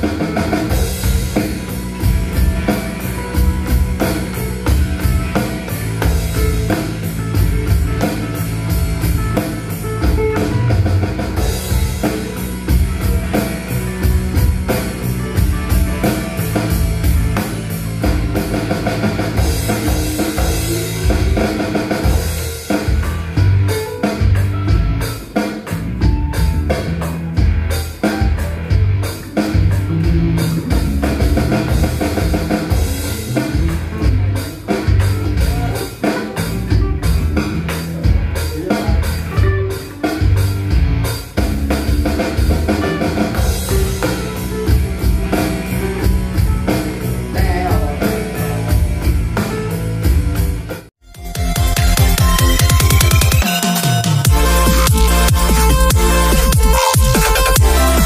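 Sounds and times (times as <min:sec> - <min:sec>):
electronic drum kit played with sticks: 0:00.0 - 0:58.0
rock backing music: 0:00.0 - 0:58.0.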